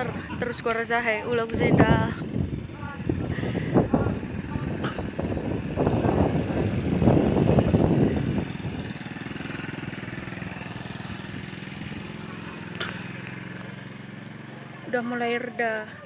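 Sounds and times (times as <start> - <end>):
engine idling: 0.0 - 16.0
loud rough rumbling: 0.0 - 16.0.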